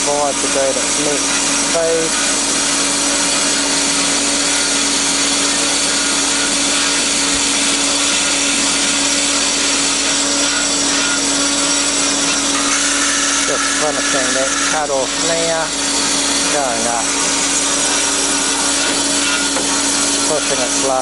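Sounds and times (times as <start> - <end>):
bandsaw hum: 0.0 - 21.0.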